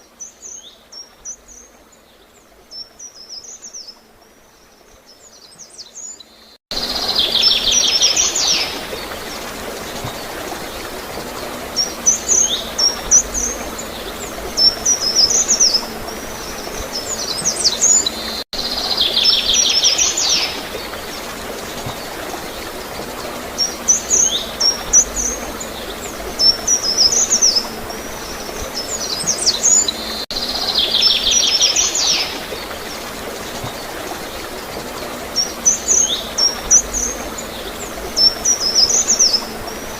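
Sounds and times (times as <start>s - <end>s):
songbirds chirping and trilling: 0.0s - 39.9s
water flowing and gurgling: 0.0s - 39.9s.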